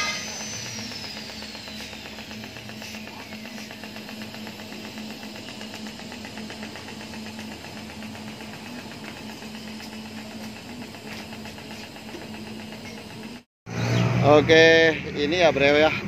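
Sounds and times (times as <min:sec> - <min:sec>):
electric arc welding buzz: 0:00.0 - 0:13.5.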